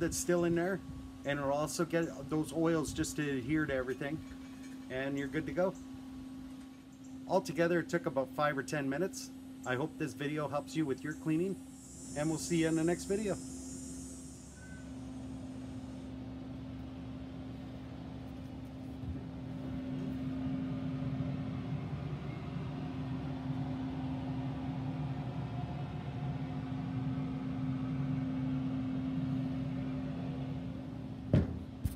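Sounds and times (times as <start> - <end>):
grill fan motor hum: 0.0 - 31.9.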